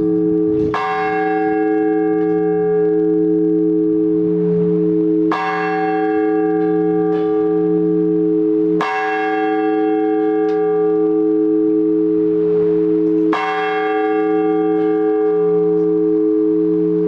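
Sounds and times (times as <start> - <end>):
large church bell tolling: 0.0 - 17.0.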